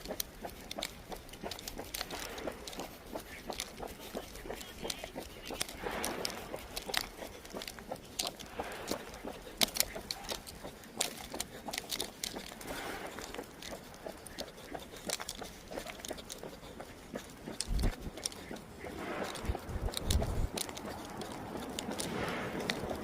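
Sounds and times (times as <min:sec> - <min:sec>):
dog claws pattering: 0:00.0 - 0:23.0
footsteps: 0:00.0 - 0:23.0.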